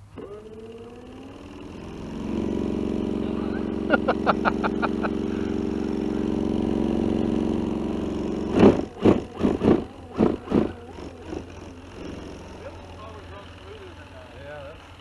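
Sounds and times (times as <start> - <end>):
model lawnmower engine drone: 0.0 - 15.0.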